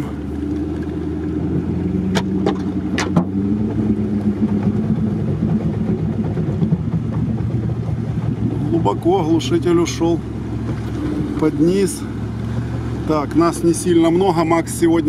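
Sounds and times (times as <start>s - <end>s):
engine running at low speed: 0.0s - 15.0s
vehicle wading through mud: 0.0s - 15.0s.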